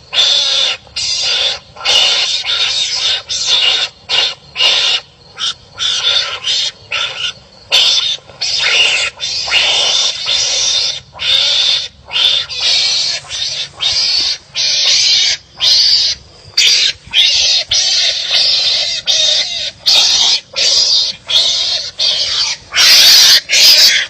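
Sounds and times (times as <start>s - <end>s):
animals barking harshly: 0.1s - 24.0s.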